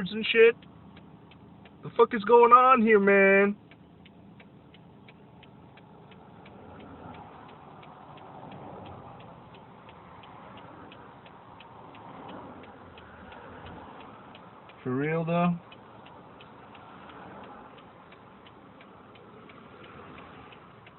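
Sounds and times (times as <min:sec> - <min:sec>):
car engine and road noise: 0:00.0 - 0:20.9
turn signal clicking: 0:00.0 - 0:20.9.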